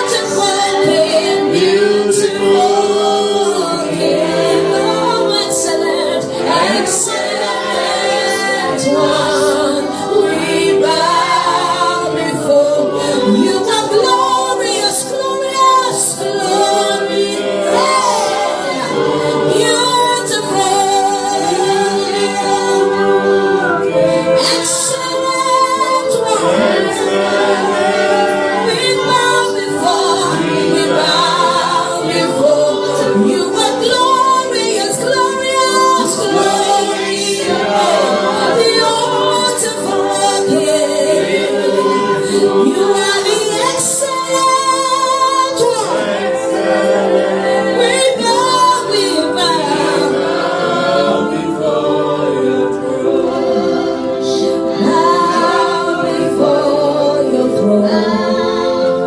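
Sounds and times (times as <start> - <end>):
group singing worship song: 0.0 - 59.0.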